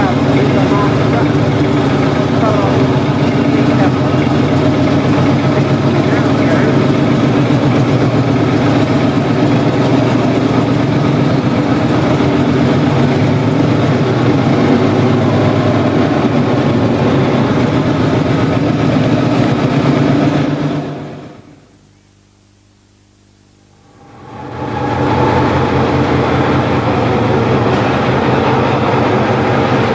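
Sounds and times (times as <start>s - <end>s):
tractor engine running: 0.0s - 21.6s, 23.7s - 29.9s.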